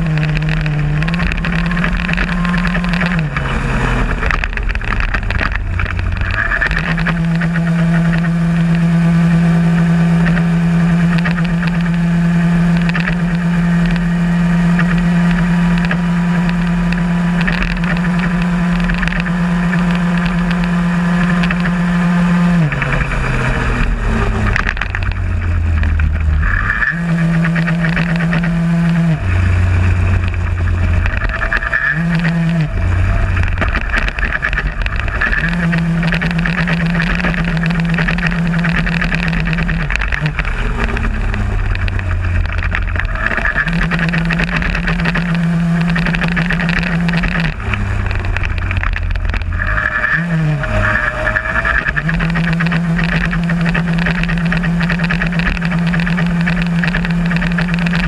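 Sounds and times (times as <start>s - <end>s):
moped engine buzzing: 0.0s - 58.0s.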